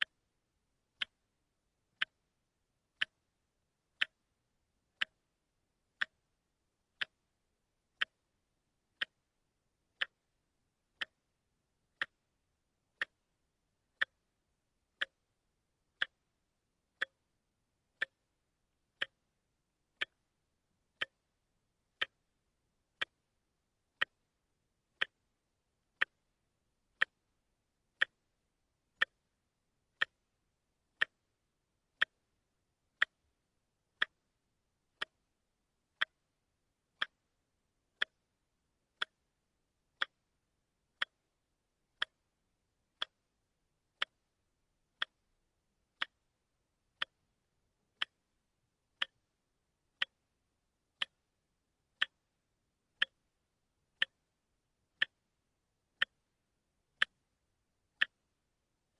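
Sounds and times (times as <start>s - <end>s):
wristwatch ticking: 0.0s - 58.9s.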